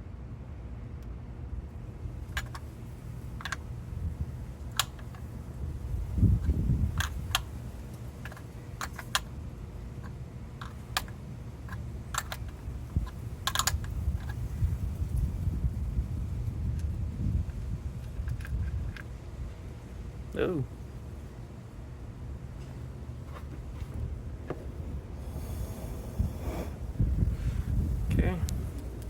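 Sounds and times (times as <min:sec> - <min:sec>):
low steady rumble: 0:00.0 - 0:29.0.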